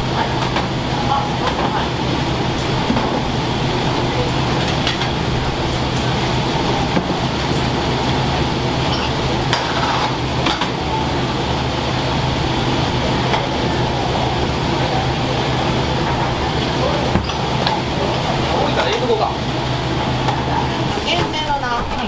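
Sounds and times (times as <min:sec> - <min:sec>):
low drone of kitchen fans: 0:00.0 - 0:22.0.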